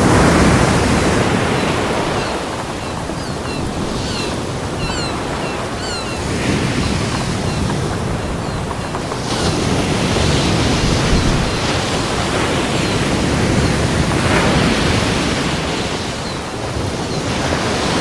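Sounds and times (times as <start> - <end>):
ocean surf on beach: 0.0 - 18.0.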